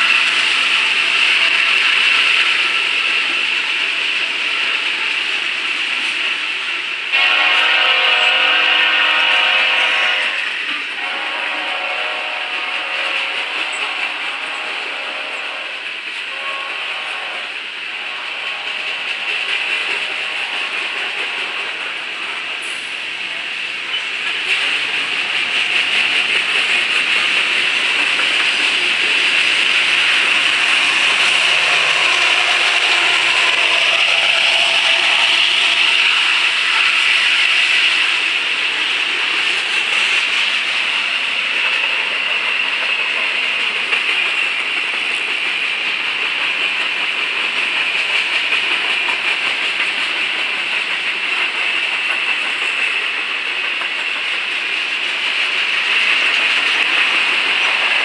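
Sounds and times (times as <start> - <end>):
steel wheels on rails: 0.0 - 58.0.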